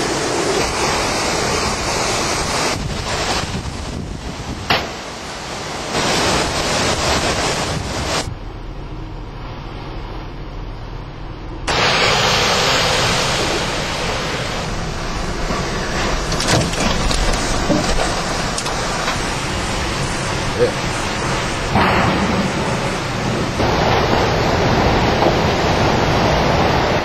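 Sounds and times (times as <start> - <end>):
wind buffeting microphone: 0.0 - 8.6, 11.9 - 27.0
wind-driven rain: 0.0 - 27.0.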